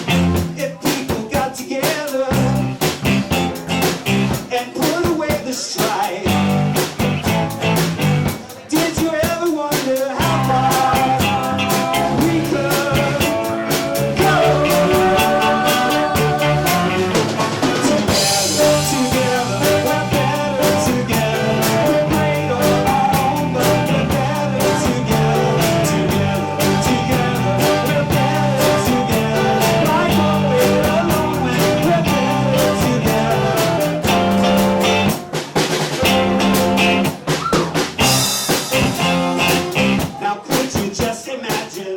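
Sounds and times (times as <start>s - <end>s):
live rock band playing: 0.0s - 41.7s
drum kit beat: 0.0s - 41.9s.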